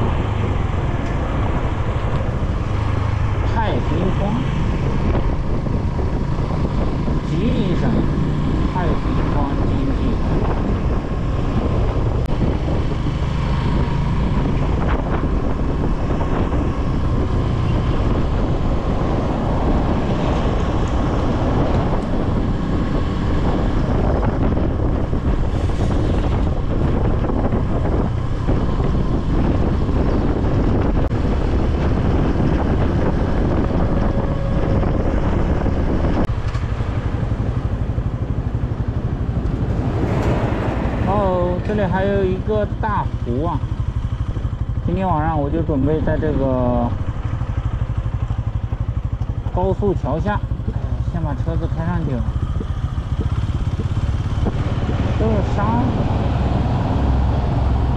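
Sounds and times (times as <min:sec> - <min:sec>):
motorcycle engine and road rumble: 0:00.0 - 0:57.9
wind rushing over microphone: 0:00.0 - 0:57.9.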